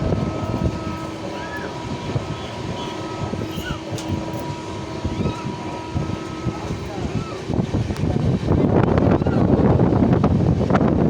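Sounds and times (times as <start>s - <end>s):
steady high hum: 0.0s - 11.0s
train rumbling with knocks: 0.0s - 11.0s.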